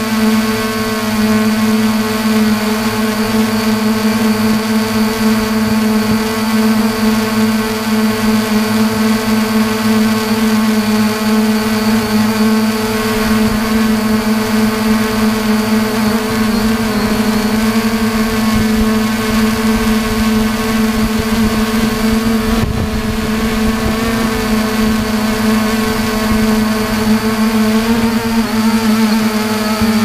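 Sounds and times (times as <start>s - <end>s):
drone propellers humming: 0.0s - 30.0s.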